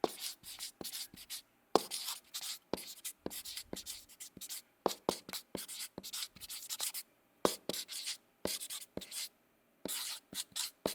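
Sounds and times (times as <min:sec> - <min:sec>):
marker pen writing on board: 0:00.0 - 0:10.9.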